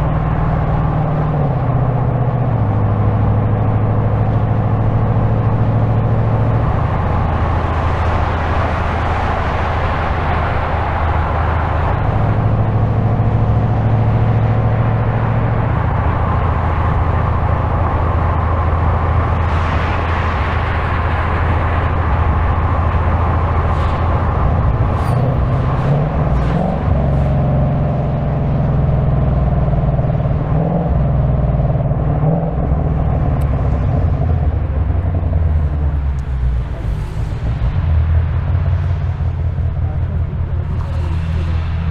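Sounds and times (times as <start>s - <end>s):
car engine drone: 0.0s - 41.9s
tyre and road noise: 0.0s - 41.9s.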